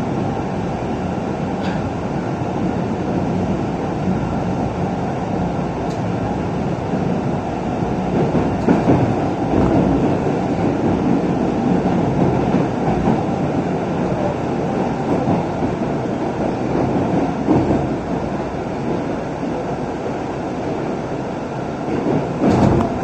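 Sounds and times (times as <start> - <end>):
subway train rumbling on track: 0.0 - 23.0.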